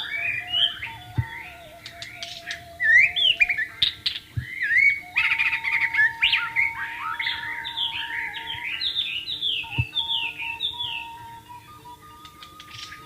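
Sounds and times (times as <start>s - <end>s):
bamboo flute music: 0.0s - 13.0s
bird singing whistles and chirps: 0.0s - 13.0s.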